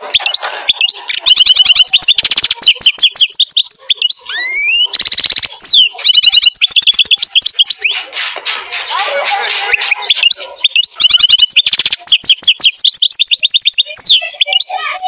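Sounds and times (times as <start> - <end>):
lovebird chirping and chattering: 0.0 - 15.0.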